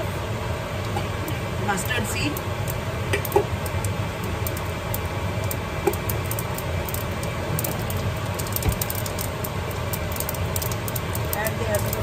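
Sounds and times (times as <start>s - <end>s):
hot oil crackling and popping: 0.0s - 12.0s
steady low rumble: 0.0s - 12.0s.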